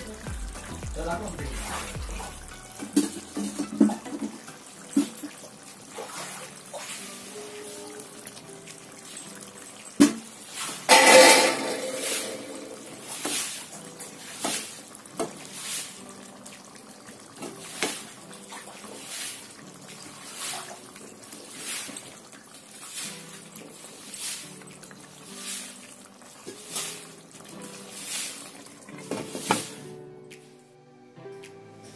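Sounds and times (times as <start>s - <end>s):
wet splash and clatter: 0.0s - 29.9s
background music: 0.0s - 31.9s.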